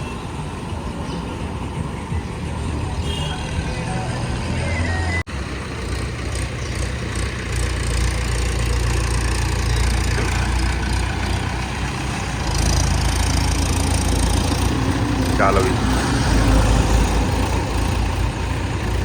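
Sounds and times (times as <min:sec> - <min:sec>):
vehicle engine running: 0:00.4 - 0:19.0.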